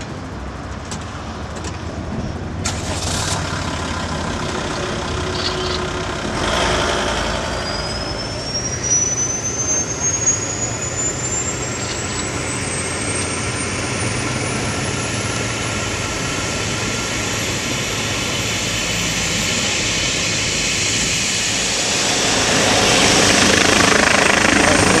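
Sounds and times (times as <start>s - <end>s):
helicopter rotor noise: 3.4s - 25.0s
helicopter turbine whine: 3.6s - 25.0s.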